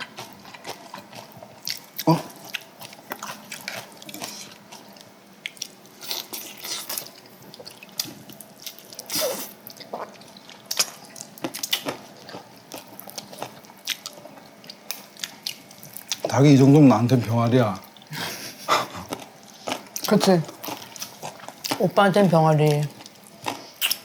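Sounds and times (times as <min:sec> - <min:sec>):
wet chewing and biting: 0:00.0 - 0:16.3, 0:19.0 - 0:21.9, 0:22.6 - 0:24.0.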